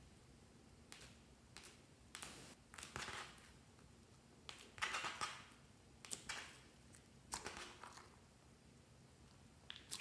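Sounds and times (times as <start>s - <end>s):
sticky slime squelches: 0.9s - 8.4s, 9.2s - 10.0s.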